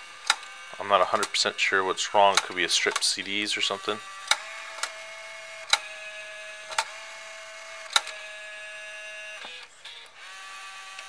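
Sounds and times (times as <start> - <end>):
cd changer motor whine: 0.0 - 11.0.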